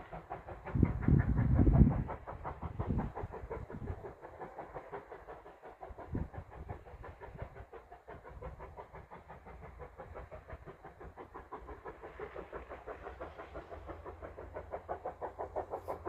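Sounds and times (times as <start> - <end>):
steam train chuffing past: 0.0 - 16.0.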